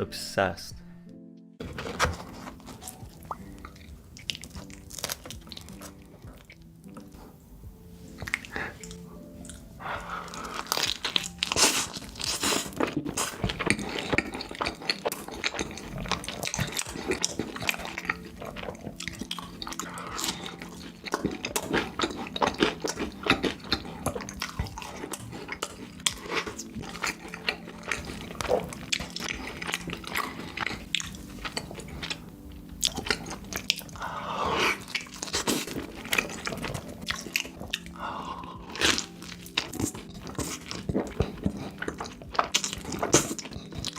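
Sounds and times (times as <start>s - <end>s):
crunchy chewing: 1.6s - 7.4s, 8.0s - 43.9s
wet mouth sounds: 2.5s - 7.2s, 8.1s - 43.9s.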